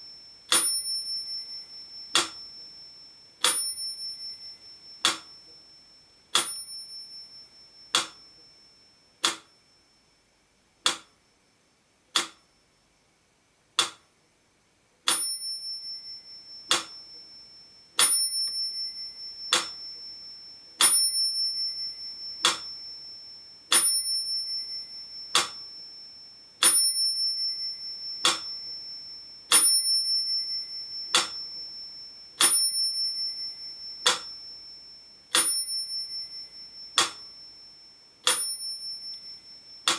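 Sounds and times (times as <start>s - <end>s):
metronome ticking: 0.0s - 2.8s, 3.4s - 5.7s, 6.3s - 9.7s, 10.8s - 11.3s, 12.1s - 12.6s, 13.8s - 14.1s, 15.1s - 37.6s, 38.2s - 39.9s
metronome bell ringing: 0.0s - 10.3s, 15.1s - 39.9s.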